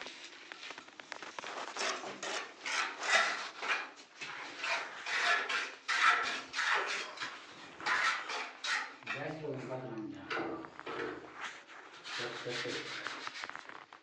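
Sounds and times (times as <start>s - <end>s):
hand tool scraping cement: 1.4s - 13.8s.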